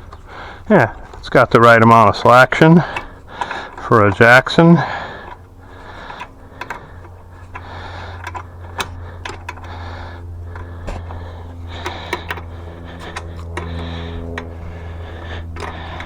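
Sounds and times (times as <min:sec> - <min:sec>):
hand tools clicking on metal: 0:00.0 - 0:16.0
steady low hum: 0:00.0 - 0:16.0.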